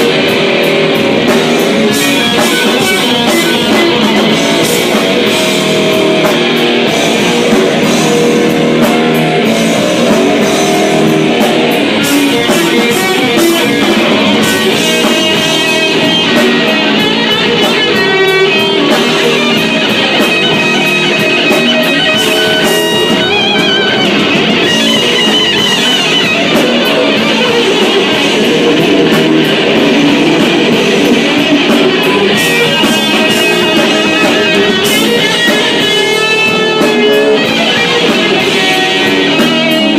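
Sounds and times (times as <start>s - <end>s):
guitar-led rock music: 0.0s - 39.9s.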